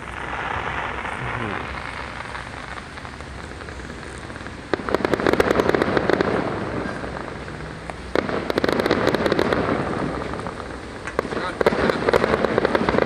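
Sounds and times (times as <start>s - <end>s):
firework bangs: 0.0s - 13.0s
fireworks crackling: 0.0s - 13.0s.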